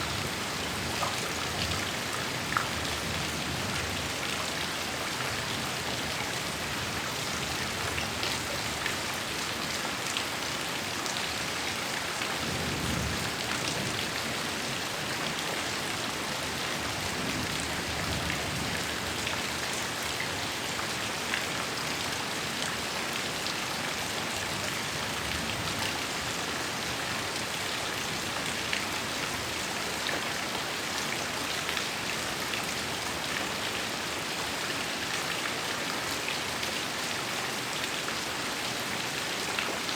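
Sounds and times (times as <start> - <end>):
heavy rain falling: 0.0 - 39.9
rain drops ticking on surface: 0.0 - 39.9.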